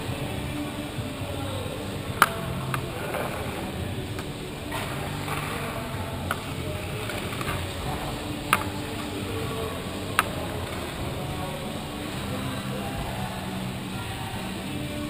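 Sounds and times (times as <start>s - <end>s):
arena rumble: 0.0s - 15.0s.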